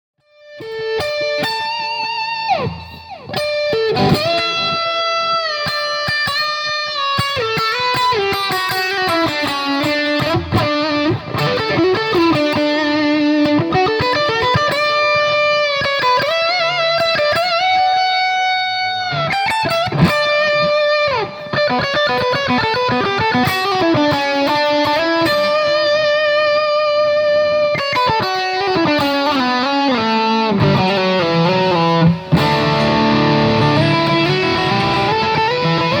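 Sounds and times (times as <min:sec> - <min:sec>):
electric guitar melody: 0:00.2 - 0:36.0.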